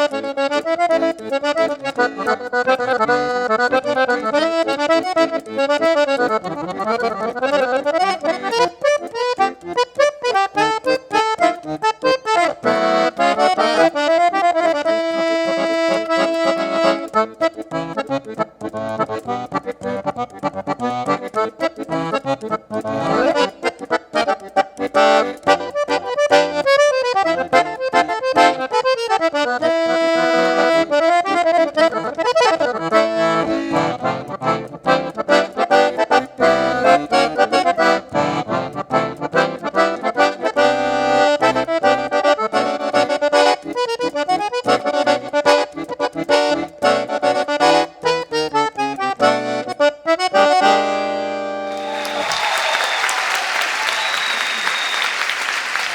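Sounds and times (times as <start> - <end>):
accordion playing fast runs: 0.0 - 55.9.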